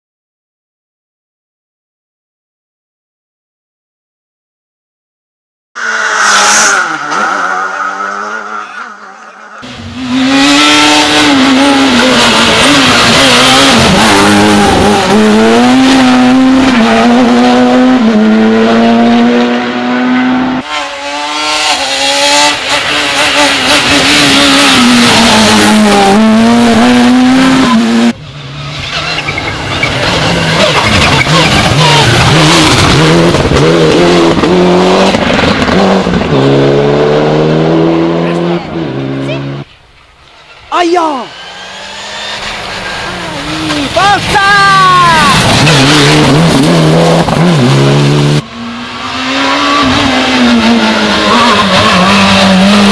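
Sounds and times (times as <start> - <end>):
rally car engines revving: 5.8 - 52.9.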